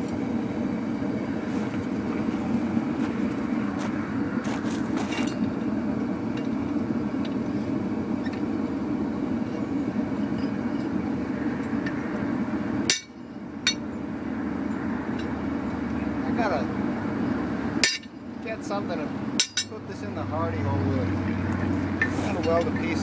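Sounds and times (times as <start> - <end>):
gas forge burner roaring: 0.0 - 23.0.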